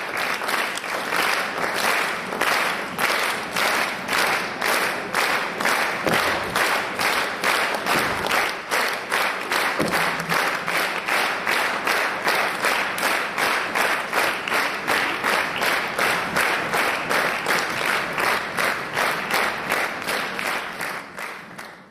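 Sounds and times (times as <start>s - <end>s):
audience clapping in unison: 0.0s - 21.9s.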